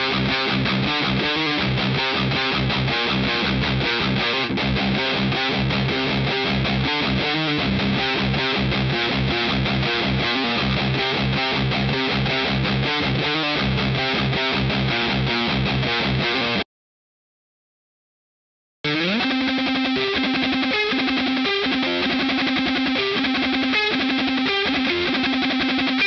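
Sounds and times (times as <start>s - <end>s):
distorted electric guitar riffs: 0.0s - 16.7s, 18.8s - 26.0s.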